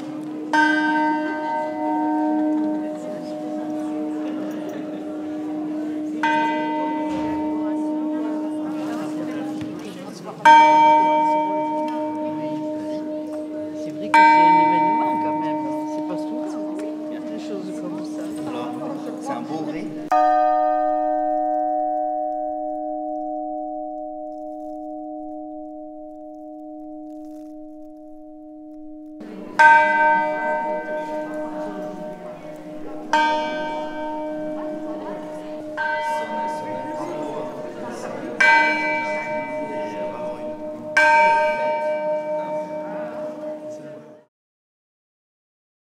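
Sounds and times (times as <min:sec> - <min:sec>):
murmur of voices: 0:00.0 - 0:22.0, 0:29.2 - 0:44.3
church bell ringing: 0:00.0 - 0:44.3.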